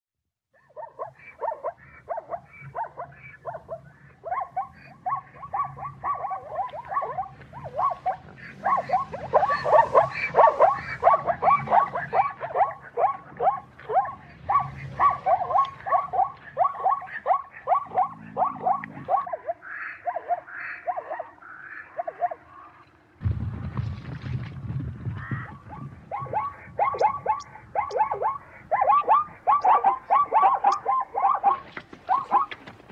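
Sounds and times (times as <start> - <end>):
zebra barking yips: 0.6 - 22.6, 25.2 - 32.9.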